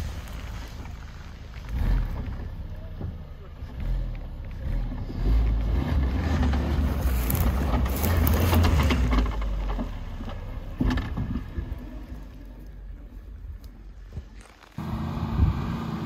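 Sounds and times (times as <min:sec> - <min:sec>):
tyres churning dirt: 0:00.0 - 0:16.0
vehicle engine rumbling under load: 0:00.0 - 0:16.0.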